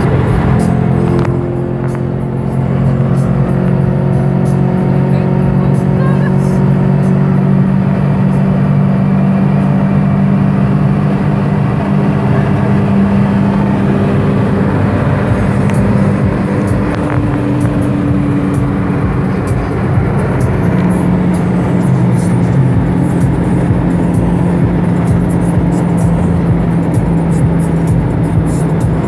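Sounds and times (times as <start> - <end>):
car engine droning at high revs: 0.0 - 29.0
road noise: 0.0 - 29.0.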